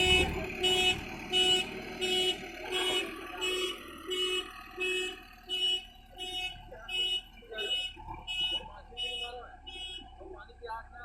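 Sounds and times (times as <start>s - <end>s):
faint engine running: 0.0s - 11.0s.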